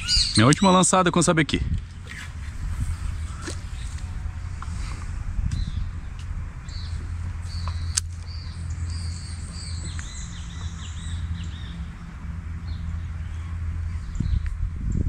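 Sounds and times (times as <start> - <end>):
small birds chirping: 0.0 - 1.1, 2.0 - 15.0
steady low rumble: 0.0 - 15.0.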